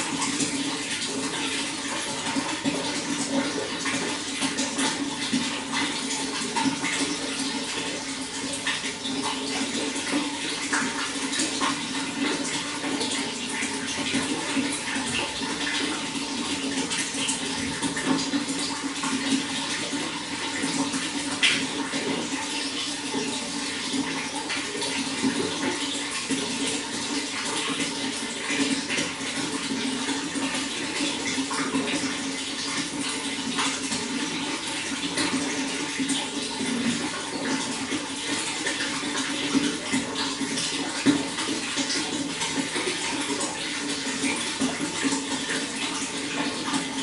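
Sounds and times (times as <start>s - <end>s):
running water: 0.0s - 47.0s
water splashes and drips: 0.0s - 47.0s.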